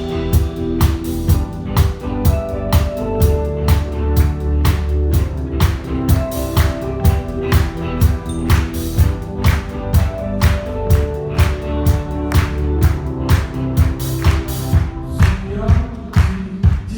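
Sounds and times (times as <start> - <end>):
live band playing: 0.0 - 15.4
drums beating: 0.0 - 16.9.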